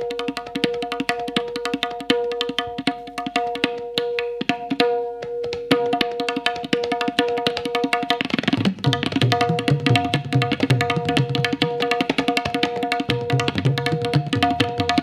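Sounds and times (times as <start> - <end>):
tabla rapid strokes: 0.0 - 15.0.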